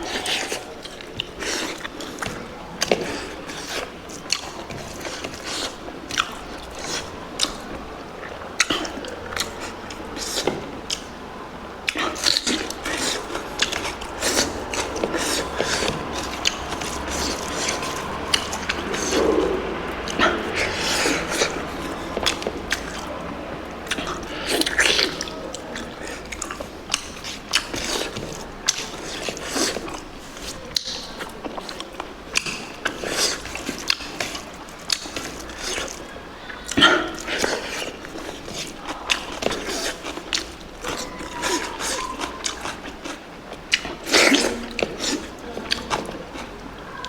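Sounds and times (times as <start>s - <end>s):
person chewing and crunching food: 0.0s - 47.0s.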